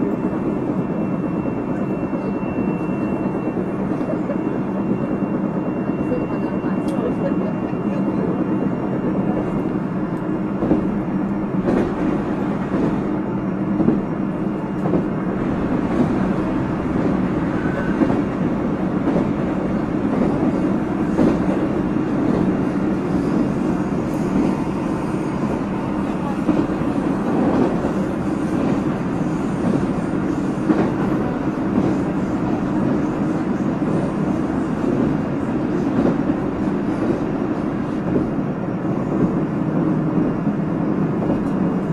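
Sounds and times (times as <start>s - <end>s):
steady train hum: 0.0s - 41.9s
train wheels rumbling on rail: 0.0s - 41.9s.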